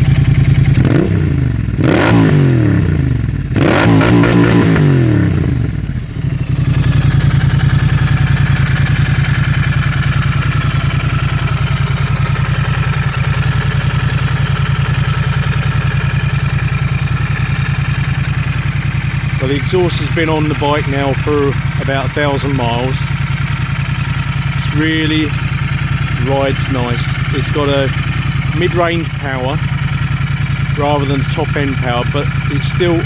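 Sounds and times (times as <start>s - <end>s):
motorcycle engine revving and idling: 0.0s - 33.0s.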